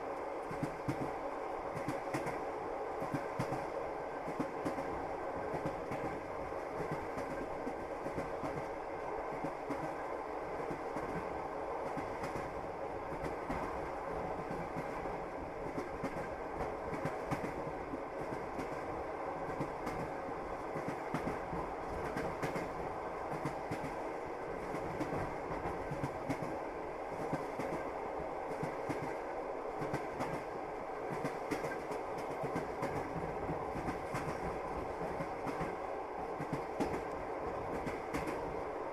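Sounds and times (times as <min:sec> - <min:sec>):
train running noise: 0:00.0 - 0:38.9
train wheels clacking on rails: 0:00.4 - 0:27.9, 0:28.5 - 0:29.2, 0:29.8 - 0:38.6.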